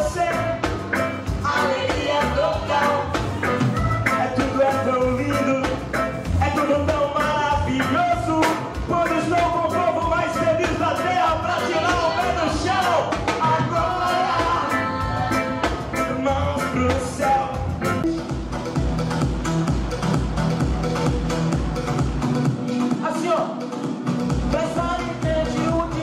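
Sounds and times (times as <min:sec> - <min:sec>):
drum hits: 0:00.0 - 0:23.0
wavering melodic lead line: 0:00.0 - 0:23.0
bass: 0:00.0 - 0:26.0.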